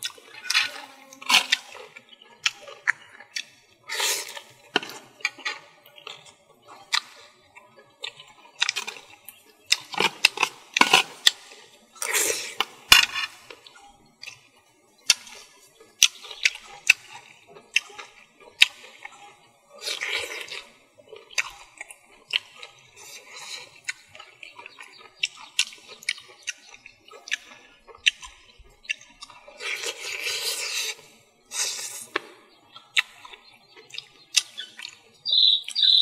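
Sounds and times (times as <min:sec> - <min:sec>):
wet chewing and lip-smacking: 0:00.0 - 0:36.0.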